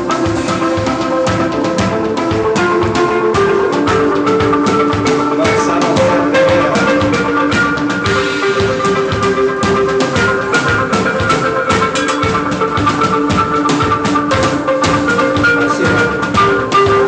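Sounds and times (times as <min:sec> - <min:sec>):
drum kit beating: 0:00.0 - 0:17.0
rock band playing: 0:00.0 - 0:17.0.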